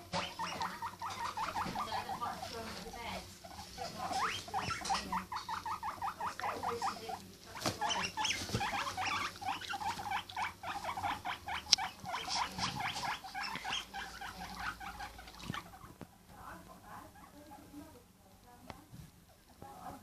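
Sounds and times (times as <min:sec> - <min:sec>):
guinea pig squeaking: 0:00.0 - 0:20.0.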